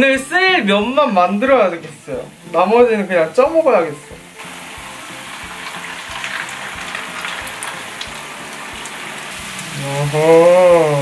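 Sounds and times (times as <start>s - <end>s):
batter frying in oil: 0.0s - 11.0s
light background music: 0.0s - 11.0s.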